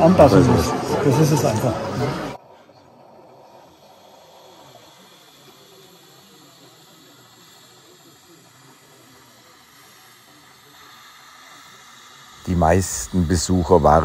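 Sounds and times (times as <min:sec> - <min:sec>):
hiss: 0:00.0 - 0:14.0
low indistinct murmur: 0:00.0 - 0:14.0.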